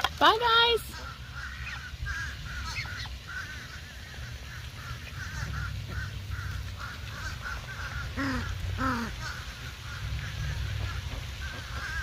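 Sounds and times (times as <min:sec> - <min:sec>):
low steady rumble: 0:00.0 - 0:12.0
ducks calling: 0:00.2 - 0:12.0.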